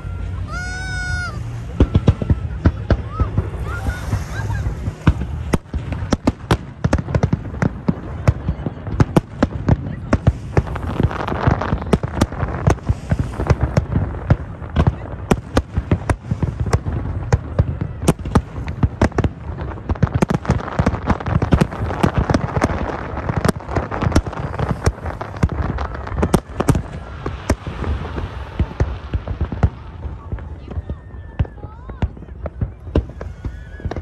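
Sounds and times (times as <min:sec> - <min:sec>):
continuous low rumble: 0:00.0 - 0:34.0
fireworks bursting with sharp bangs: 0:00.0 - 0:34.0.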